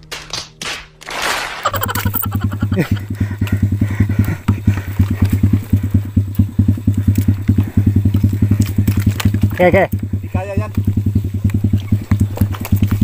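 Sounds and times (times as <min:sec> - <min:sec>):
small motorbike engine idling: 0:01.7 - 0:13.0.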